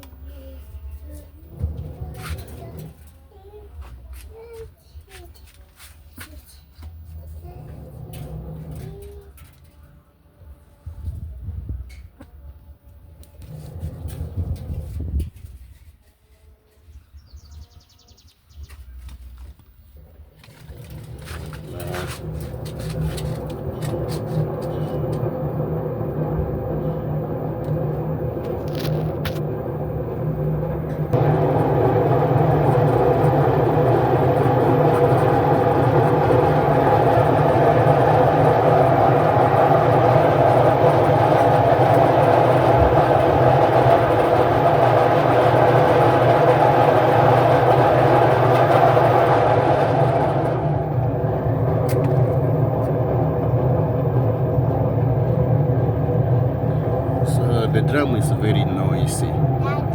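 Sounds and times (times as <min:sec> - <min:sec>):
washing machine spinning: 0:00.0 - 0:03.2, 0:06.8 - 0:09.6, 0:13.2 - 0:15.4, 0:19.0 - 0:59.9.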